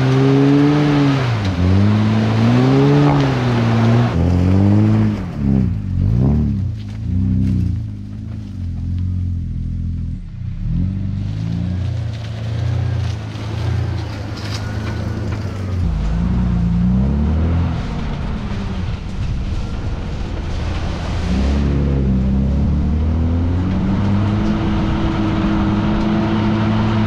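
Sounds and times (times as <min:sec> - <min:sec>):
four-wheel drive engine: 0:00.0 - 0:27.0.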